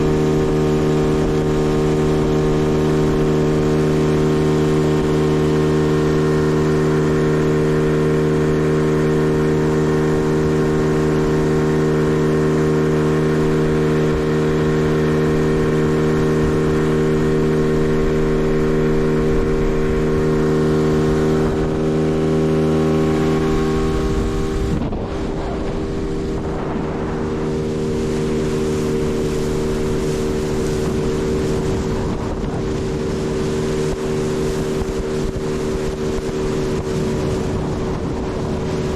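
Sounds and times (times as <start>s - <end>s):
outboard motor running: 0.0s - 38.9s
rush of water and wind: 0.0s - 38.9s.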